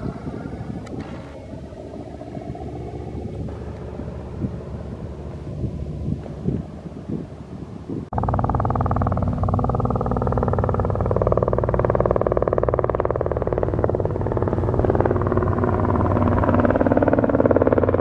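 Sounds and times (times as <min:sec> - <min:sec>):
propeller airplane engine: 0:00.0 - 0:18.0.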